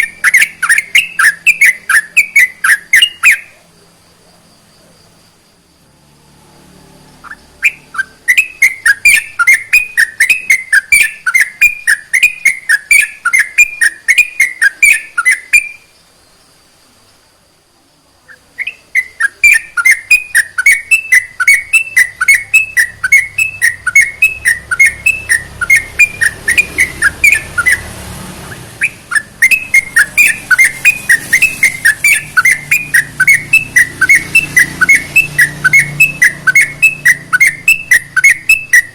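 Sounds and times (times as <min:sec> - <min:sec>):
bird singing whistled chirps: 0:00.0 - 0:04.2, 0:05.8 - 0:16.1, 0:18.2 - 0:38.9.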